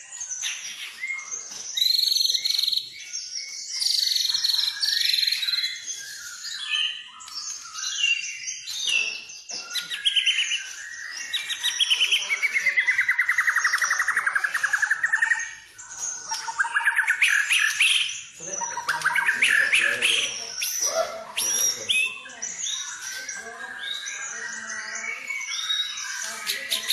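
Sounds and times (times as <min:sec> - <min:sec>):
bird singing whistles and trills: 0:00.0 - 0:26.9.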